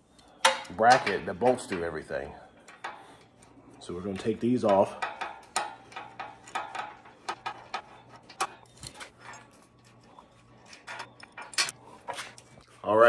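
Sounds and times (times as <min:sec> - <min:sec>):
metal tools and bolts clinking: 0:00.2 - 0:10.0, 0:10.6 - 0:12.4.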